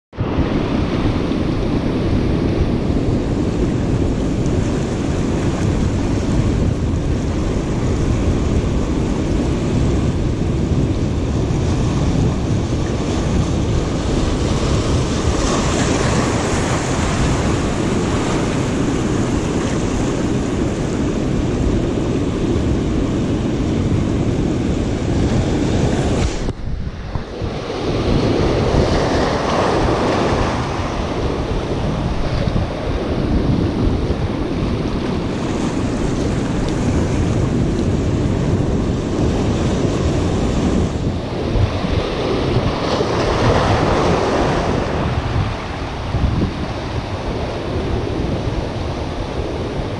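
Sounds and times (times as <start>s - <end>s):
wind buffeting microphone: 0.1s - 49.9s
surf breaking over rocks: 0.2s - 49.9s.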